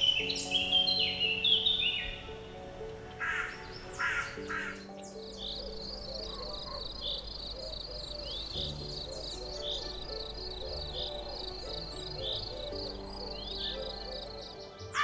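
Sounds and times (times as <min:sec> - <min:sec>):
insect chirping: 0:00.0 - 0:14.7
soft background music: 0:00.0 - 0:15.0.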